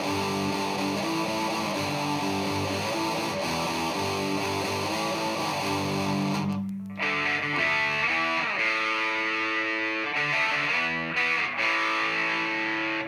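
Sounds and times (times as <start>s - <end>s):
fuzzy distorted electric guitar riff: 0.0s - 13.0s.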